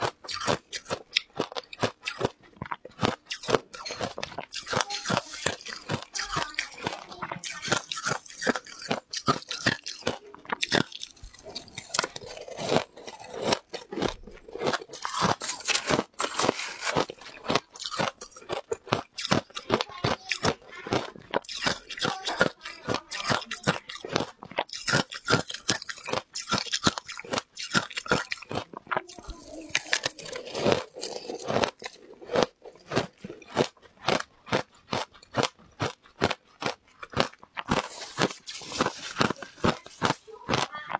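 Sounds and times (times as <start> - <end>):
shaved ice crunching while chewed: 0.0 - 40.9.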